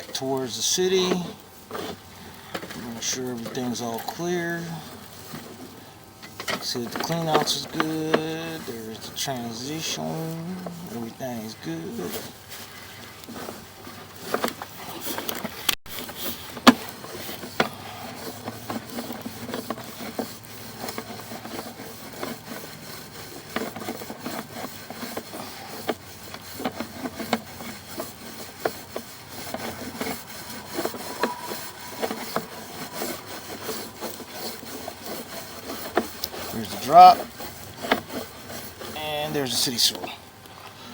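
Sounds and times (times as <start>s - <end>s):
rod scraping inside pipe: 0.0s - 40.2s.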